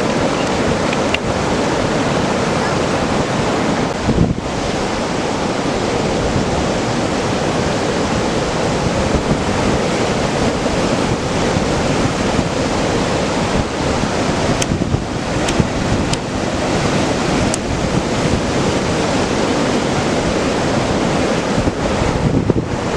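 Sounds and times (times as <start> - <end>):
loud ocean surf breaking: 0.0 - 22.9
wind blowing over microphone: 0.0 - 22.9.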